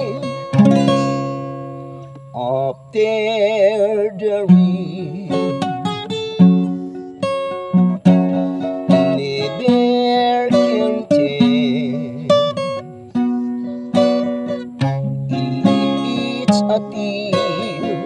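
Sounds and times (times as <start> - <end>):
man singing: 0.0 - 0.6, 2.3 - 7.2, 8.0 - 18.0
acoustic guitar strumming: 0.0 - 18.0.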